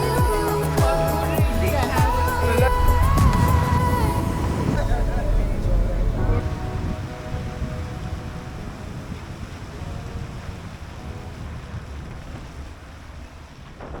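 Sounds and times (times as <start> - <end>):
faint sustained music tones: 0.0 - 12.6
low rumbling noise: 0.0 - 14.0.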